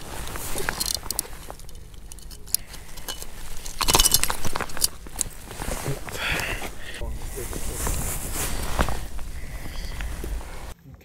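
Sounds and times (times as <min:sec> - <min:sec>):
fishing tackle clinking and rattling: 0:00.0 - 0:10.7.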